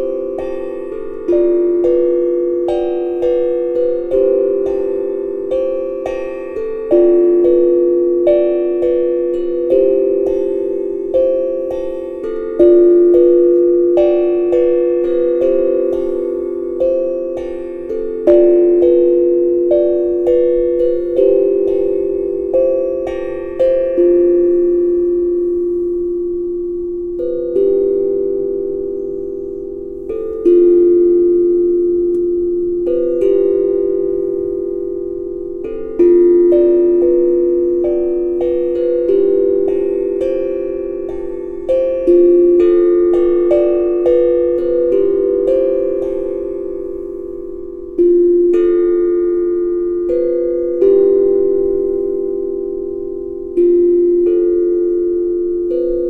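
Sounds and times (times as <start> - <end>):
tongue drum notes: 0.0 - 56.0.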